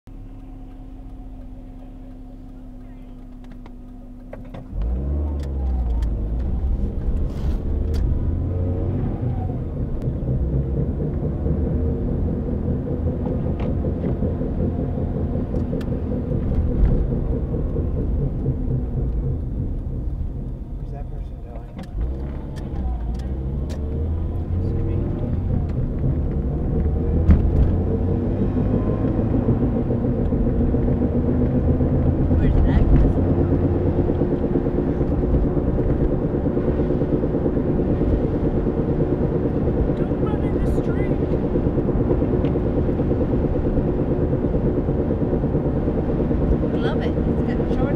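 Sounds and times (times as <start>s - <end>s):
car low rumbling drone: 0.1s - 47.9s.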